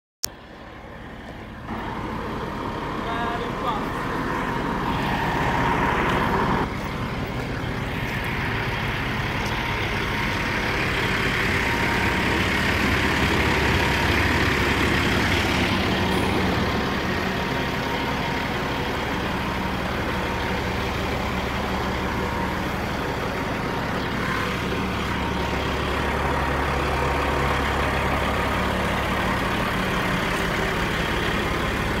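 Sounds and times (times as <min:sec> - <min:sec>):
diesel truck engine running: 0:00.2 - 0:32.0.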